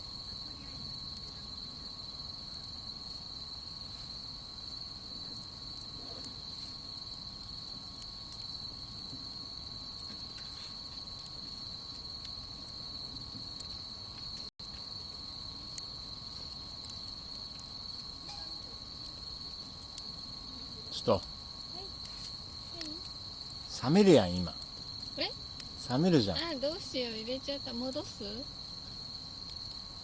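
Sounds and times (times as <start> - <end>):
crickets chirring: 0.0 - 30.0.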